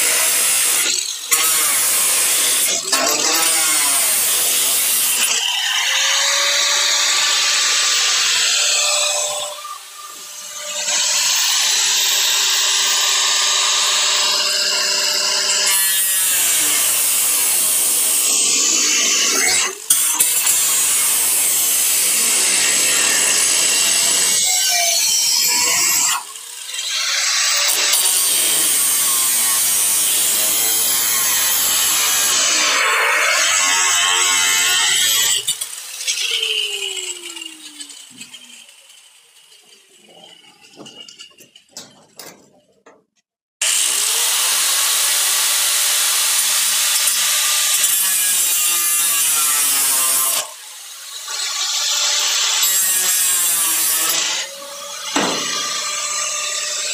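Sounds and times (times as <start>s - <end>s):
angle grinder cutting sheet steel: 0.0s - 43.0s, 43.6s - 56.9s.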